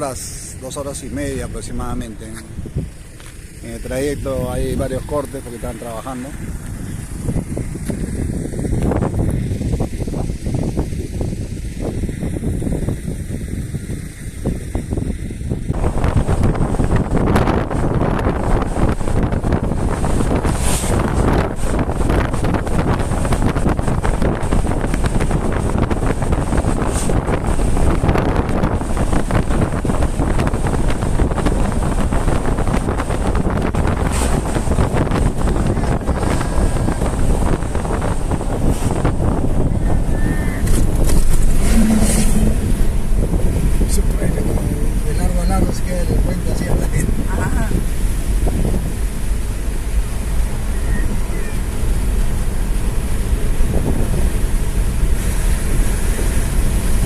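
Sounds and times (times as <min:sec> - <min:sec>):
car rumbling: 0:00.0 - 0:57.0
wind buffeting microphone: 0:00.0 - 0:57.0.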